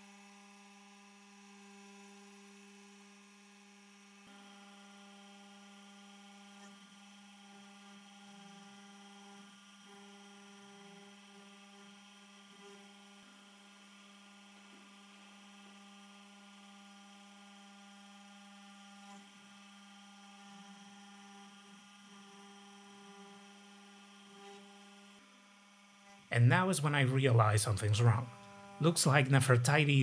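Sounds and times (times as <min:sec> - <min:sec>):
cnc spindle motor whine: 0:00.2 - 0:29.8.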